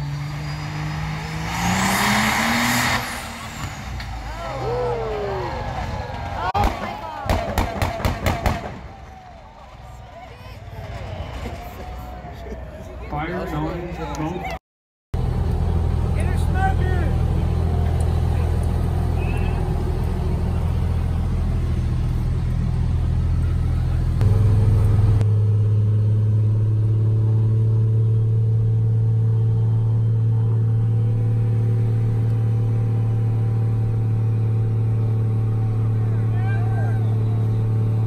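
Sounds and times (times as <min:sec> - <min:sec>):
diesel truck engine droning: 0:00.0 - 0:14.5, 0:15.2 - 0:38.0.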